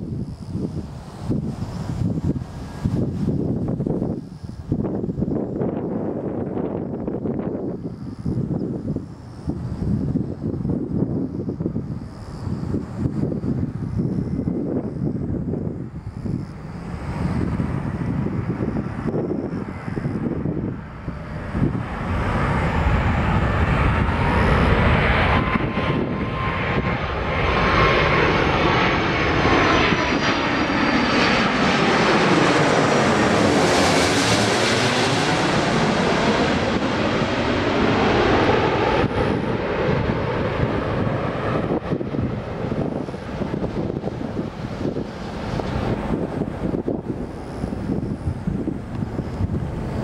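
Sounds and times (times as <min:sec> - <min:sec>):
jet airliner flying past: 0:00.0 - 0:50.0.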